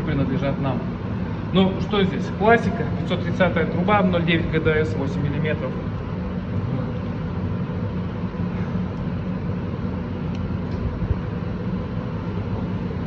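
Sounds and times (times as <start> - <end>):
low rumble with hum: 0.0 - 13.0.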